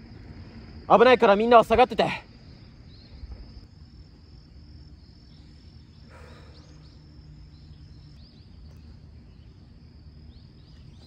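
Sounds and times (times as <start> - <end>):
insects trilling high: 0.0 - 11.0
low wind rumble: 0.0 - 11.0
faint chirps: 2.1 - 11.0.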